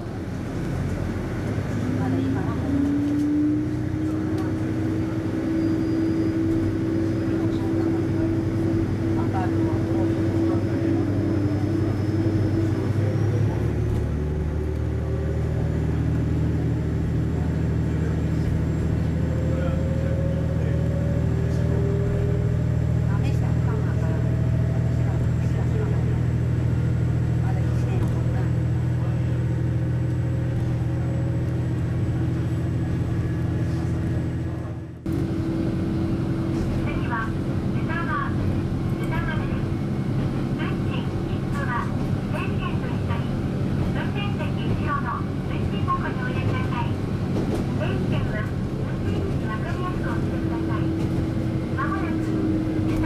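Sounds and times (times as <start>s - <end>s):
diesel engine rumbling: 0.0s - 53.0s.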